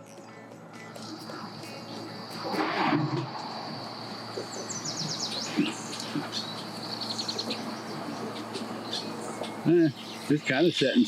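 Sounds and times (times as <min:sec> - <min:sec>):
low steady hum: 0:00.0 - 0:11.0
songbirds chirping: 0:00.0 - 0:11.0
high-pitched insect drone: 0:00.8 - 0:10.0.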